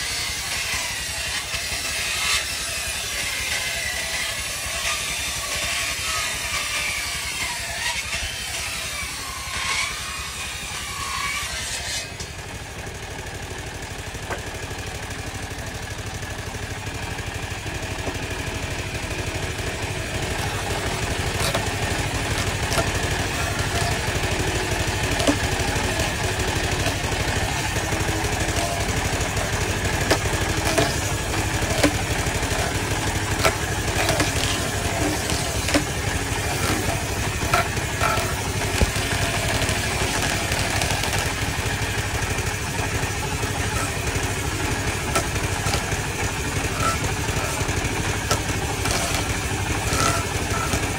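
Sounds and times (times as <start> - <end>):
table saw running: 0.0 - 50.9.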